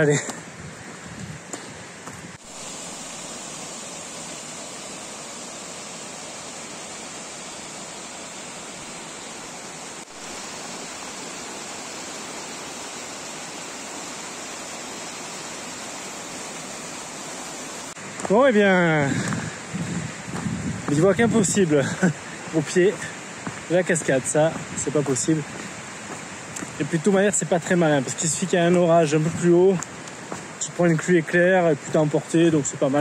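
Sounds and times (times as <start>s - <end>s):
waterfall rushing over rocks: 1.5s - 33.0s.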